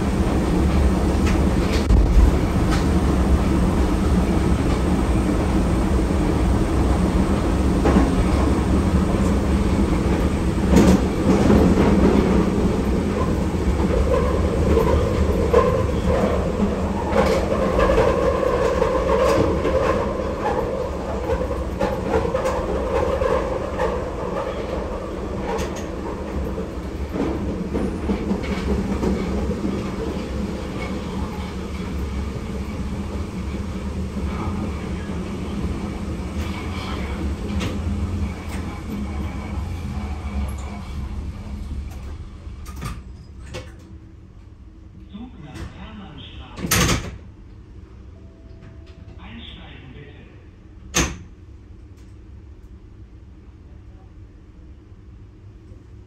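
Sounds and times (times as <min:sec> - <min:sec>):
train wheels rumbling on rails: 0:00.0 - 0:49.2.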